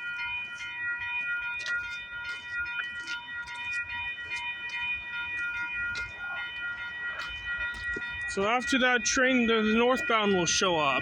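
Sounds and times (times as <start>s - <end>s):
level-crossing warning bells ringing: 0.0s - 11.0s.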